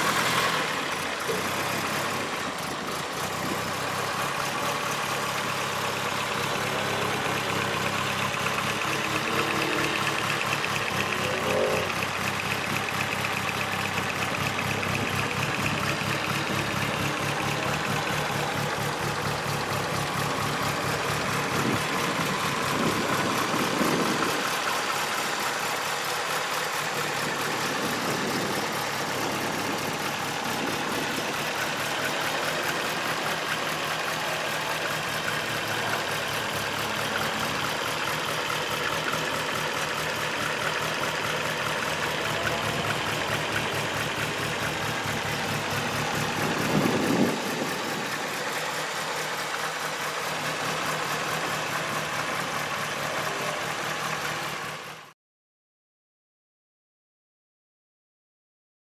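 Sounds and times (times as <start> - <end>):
car engine idling: 0.0 - 55.1.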